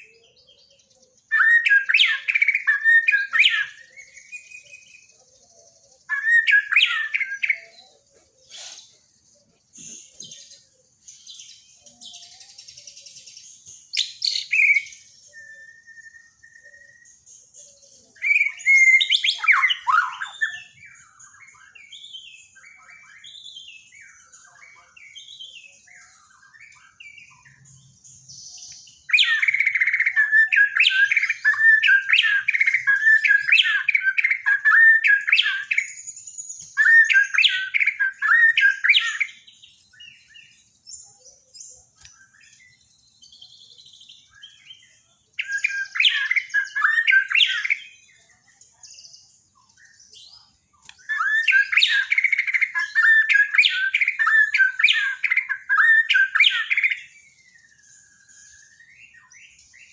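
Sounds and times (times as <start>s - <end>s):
bird singing: 0.0s - 59.9s
soft bird twittering: 0.0s - 59.9s.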